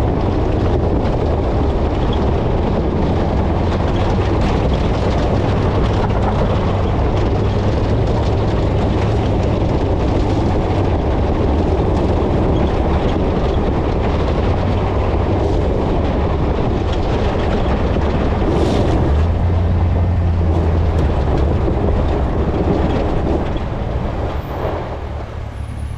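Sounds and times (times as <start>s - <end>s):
engine drone: 0.0s - 25.9s
tyres rumbling over rough ground: 0.0s - 25.9s.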